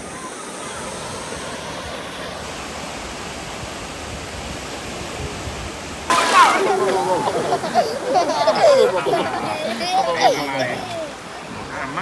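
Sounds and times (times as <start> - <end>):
sea surf breaking on beach: 0.0 - 12.0.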